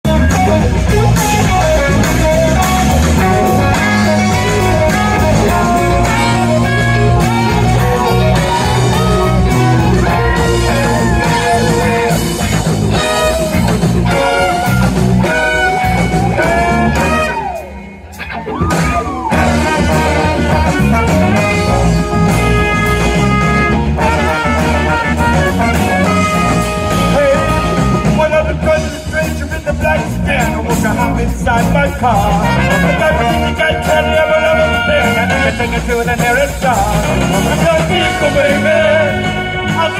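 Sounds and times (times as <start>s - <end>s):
live band playing: 0.0s - 39.9s
horn section: 0.1s - 39.9s.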